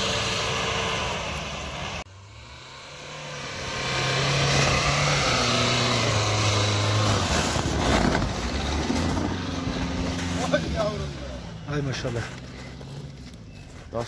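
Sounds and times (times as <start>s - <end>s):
off-road vehicle engine under load: 0.0s - 14.0s.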